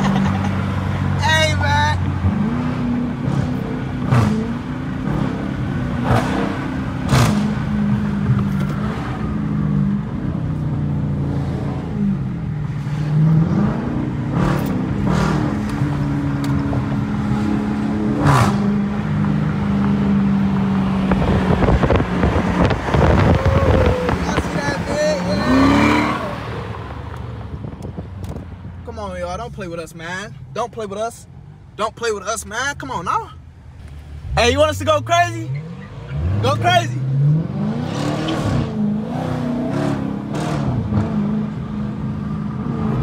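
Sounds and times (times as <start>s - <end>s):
car engine at low revs: 0.0s - 43.0s.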